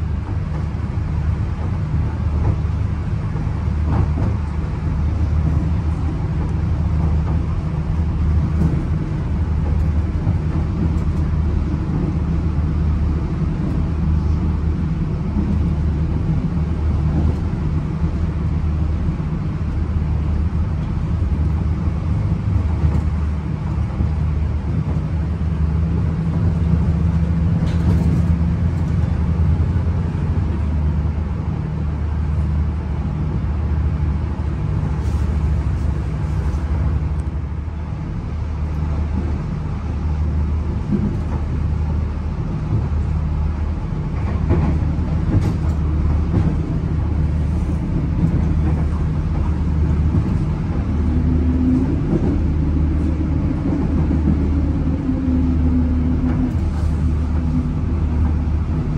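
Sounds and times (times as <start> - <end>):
train engine and wheels droning: 0.0 - 58.9.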